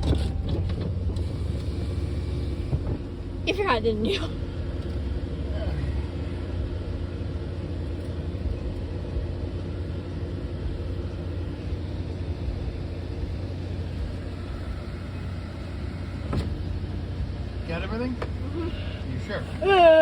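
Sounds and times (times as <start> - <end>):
car engine rumble inside cabin: 0.0 - 20.0.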